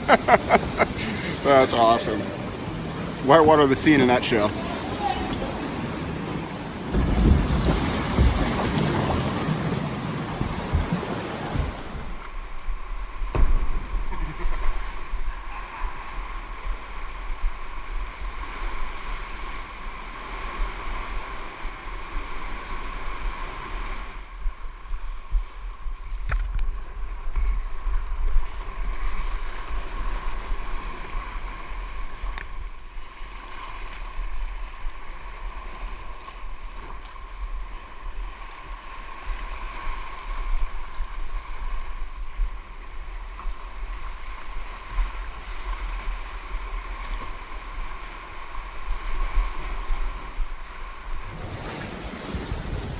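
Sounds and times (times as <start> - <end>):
wind rumbling on microphone: 0.0 - 3.6, 4.5 - 36.1, 37.2 - 52.9
water splashing around a kayak: 0.0 - 52.9.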